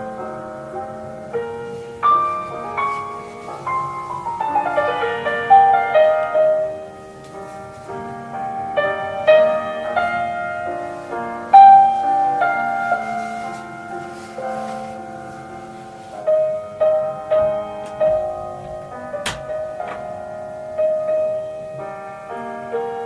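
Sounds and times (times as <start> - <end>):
solo piano classical melody: 0.0 - 23.0.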